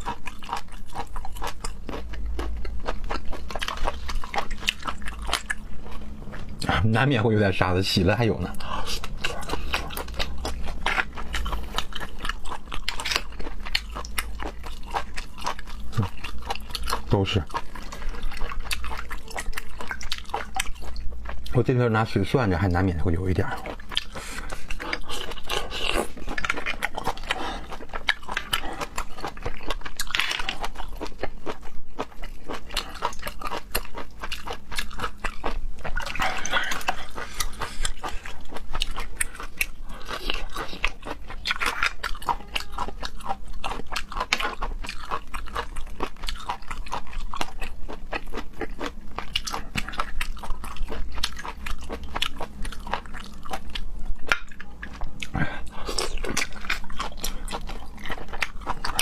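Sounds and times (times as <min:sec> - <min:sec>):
chewing and crunching seafood: 0:00.0 - 0:59.0.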